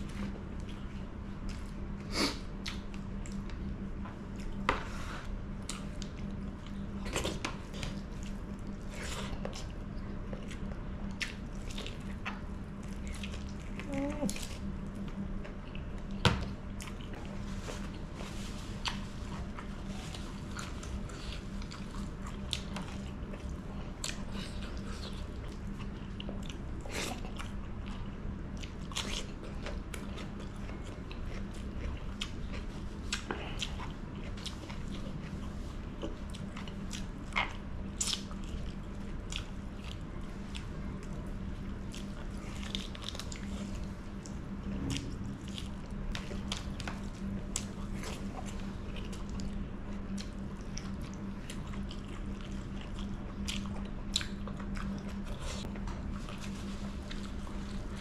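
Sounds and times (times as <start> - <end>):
chewing chicken: 0.0 - 4.7, 5.4 - 58.0
low hum: 2.8 - 58.0.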